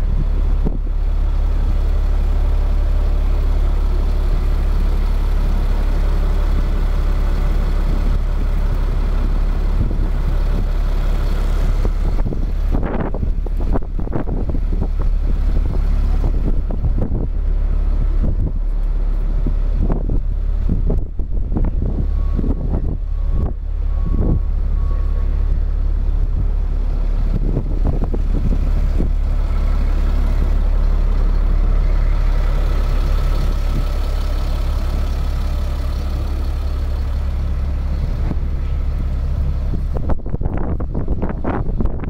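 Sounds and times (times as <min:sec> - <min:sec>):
diesel truck engine idling: 0:00.0 - 0:42.0
wind buffeting microphone: 0:07.6 - 0:42.0.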